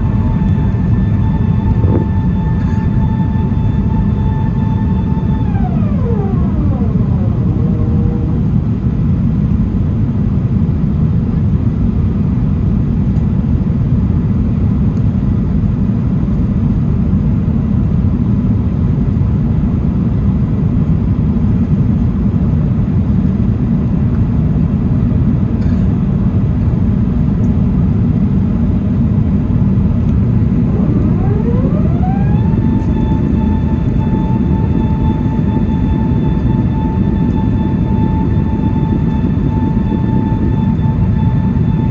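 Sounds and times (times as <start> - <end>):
jet engine and airflow rumble: 0.0 - 41.9.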